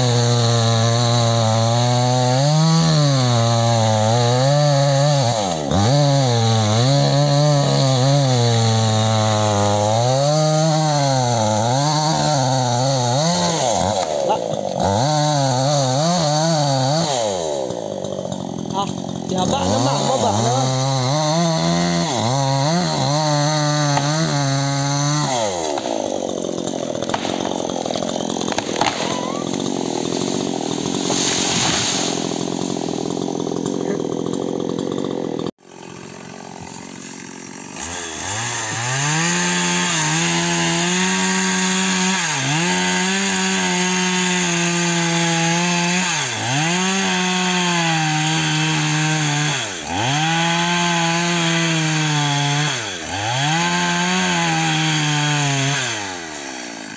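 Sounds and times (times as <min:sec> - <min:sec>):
chainsaw cutting wood: 0:00.0 - 0:56.9
wood grinding under saw: 0:00.0 - 0:56.9.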